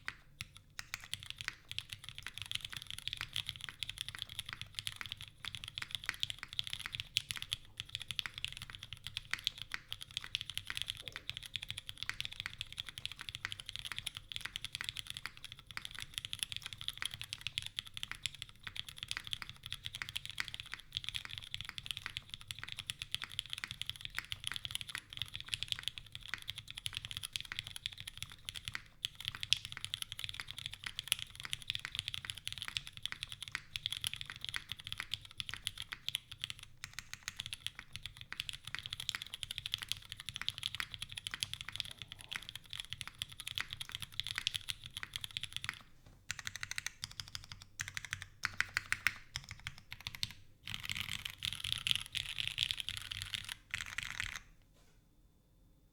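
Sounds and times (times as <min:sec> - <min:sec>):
mechanical keyboard typing: 0:00.0 - 0:54.5.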